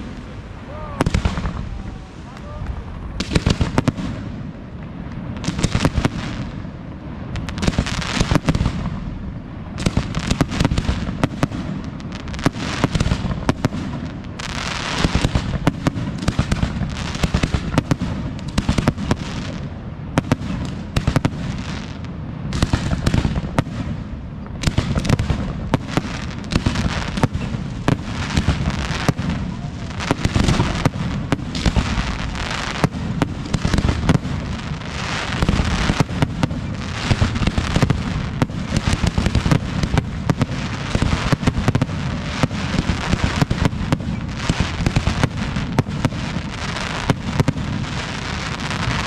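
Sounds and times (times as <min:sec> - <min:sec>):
fireworks bursting: 0:00.0 - 0:49.0.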